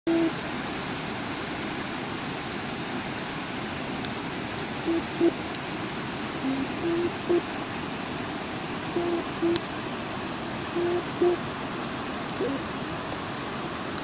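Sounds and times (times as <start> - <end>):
rain falling on river: 0.1 - 14.0.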